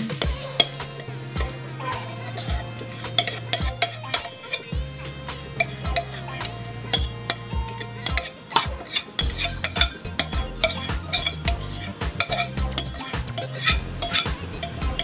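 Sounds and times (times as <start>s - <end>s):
utensil scraping a bowl: 0.2s - 15.0s.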